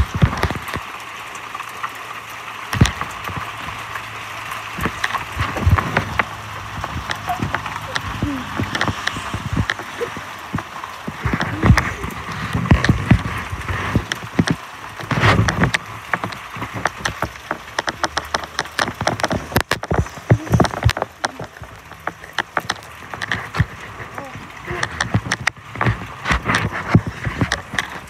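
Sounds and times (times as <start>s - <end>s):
hail and rain pelting: 0.0s - 28.0s.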